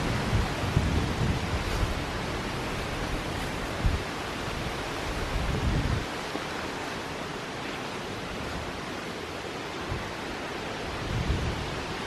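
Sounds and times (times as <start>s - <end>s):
wind rushing through woods: 0.0s - 12.0s.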